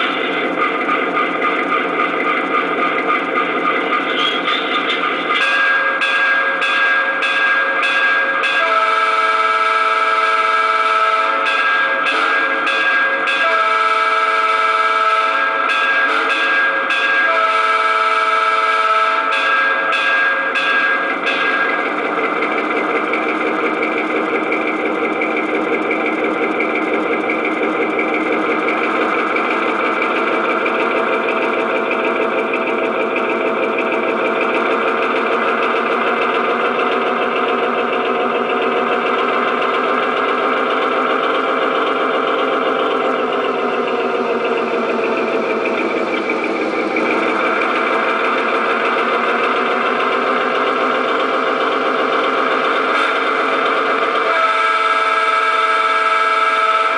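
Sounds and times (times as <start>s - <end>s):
model train diesel engine drone: 0.0s - 56.9s.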